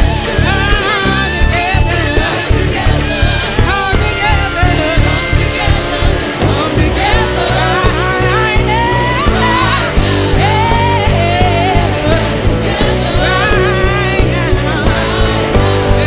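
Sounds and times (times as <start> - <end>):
bass guitar: 0.0 - 16.0
steady drum beat: 0.0 - 16.0.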